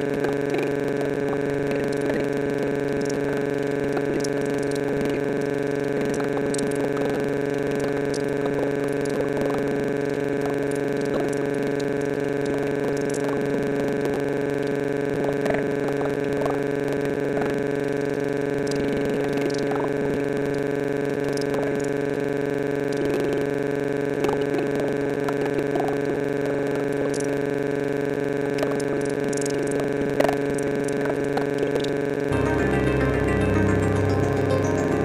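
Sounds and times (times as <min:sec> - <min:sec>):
electronic drone of fixed tones: 0:00.0 - 0:35.0.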